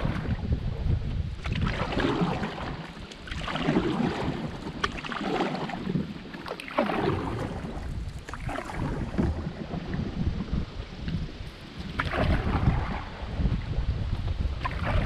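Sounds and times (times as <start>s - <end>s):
paddle splashing in water: 0.0s - 15.0s
wind rumbling on microphone: 0.0s - 15.0s.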